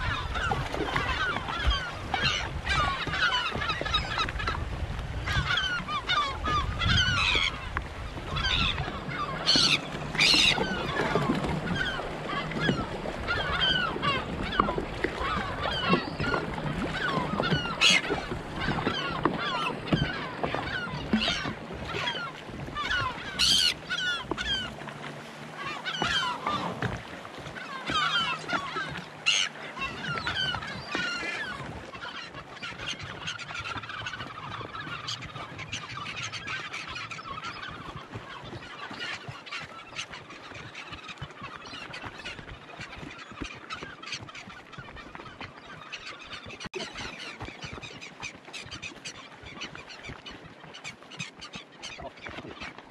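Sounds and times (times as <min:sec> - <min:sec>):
gulls squawking: 0:00.0 - 0:52.9.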